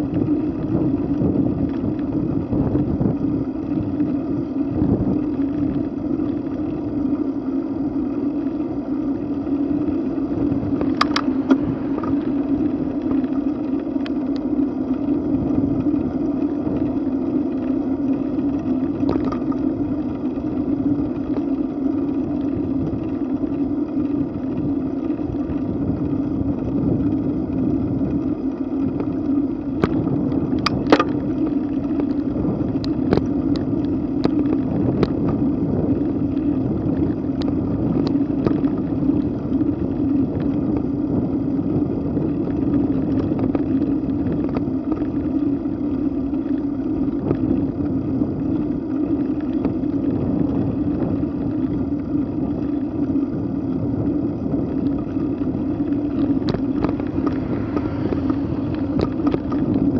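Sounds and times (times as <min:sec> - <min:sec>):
bicycle rolling noise: 0:00.0 - 0:59.9
sharp clicks and rattles: 0:00.0 - 0:59.9
wind: 0:00.0 - 0:59.9.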